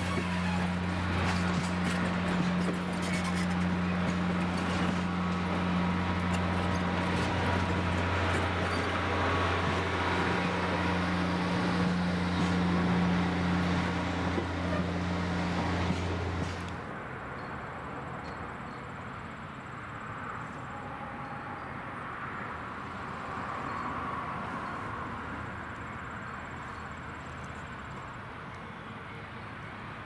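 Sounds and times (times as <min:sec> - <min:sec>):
locomotive humming with hiss: 0:00.0 - 0:30.0.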